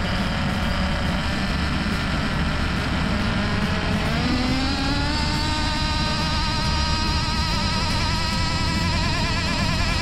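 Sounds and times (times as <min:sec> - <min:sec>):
small engine high whine: 0:00.0 - 0:10.0.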